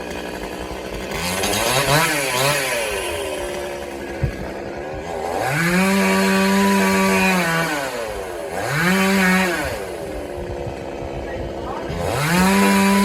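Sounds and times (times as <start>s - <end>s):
chainsaw engine revving: 0.0s - 13.0s.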